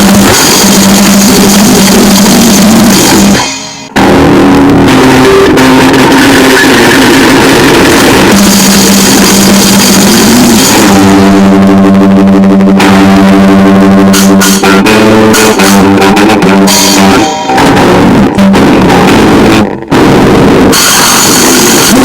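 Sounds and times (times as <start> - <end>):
distorted noisegrind drums and guitar: 0.0 - 22.0
held heavily distorted note: 0.0 - 22.0.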